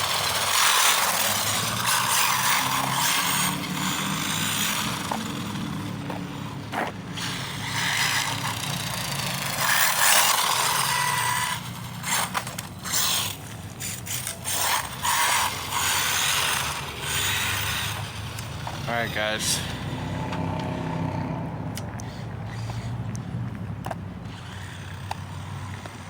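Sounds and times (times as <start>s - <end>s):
rc car motor whining: 0.0s - 26.0s
tyres scraping across ground: 0.0s - 26.0s.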